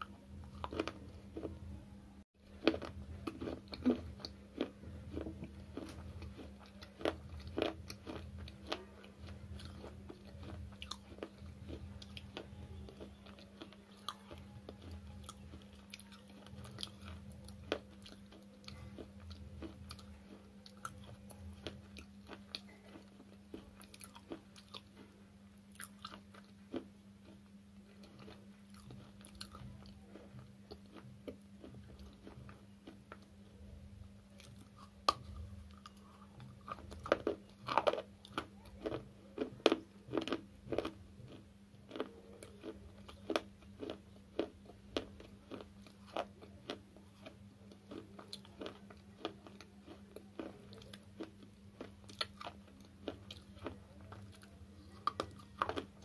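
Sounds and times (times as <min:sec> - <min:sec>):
slate chips crunching when chewed: 0:00.0 - 0:01.6, 0:02.4 - 0:56.0
steady low hum: 0:00.0 - 0:56.0.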